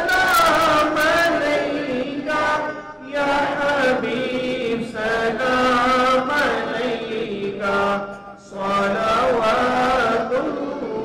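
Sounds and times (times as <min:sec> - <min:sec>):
person chanting melodically: 0:00.0 - 0:11.0.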